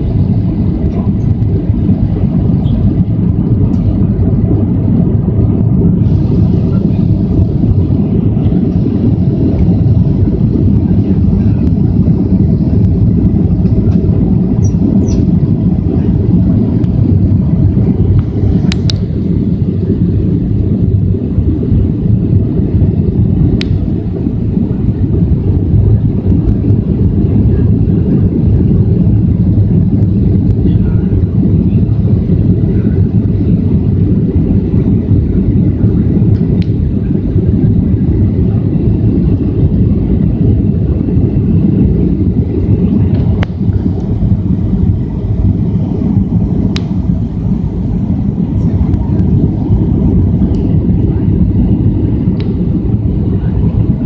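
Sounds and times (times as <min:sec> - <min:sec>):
jet engines roaring in cabin: 0:00.0 - 0:54.0
rushing air: 0:00.0 - 0:54.0.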